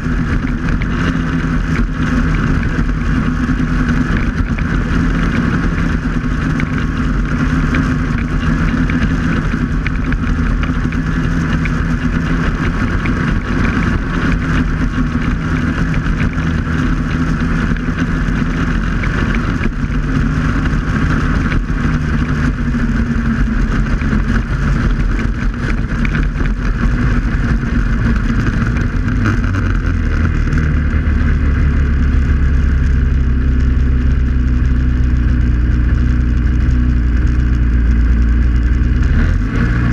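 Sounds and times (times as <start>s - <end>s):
constant rushing noise: 0.0s - 39.9s
snowmobile engine running: 0.0s - 39.9s.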